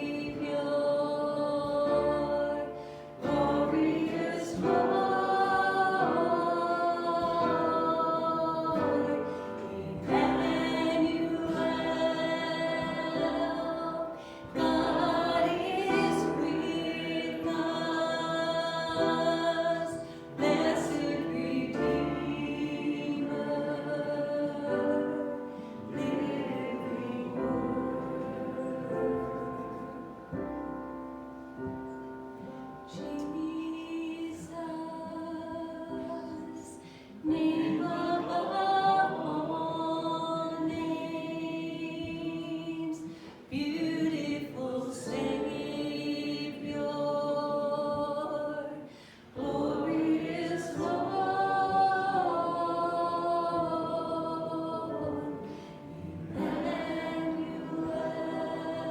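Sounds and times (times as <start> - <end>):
group of voices singing a hymn: 0.0 - 30.7, 32.4 - 58.9.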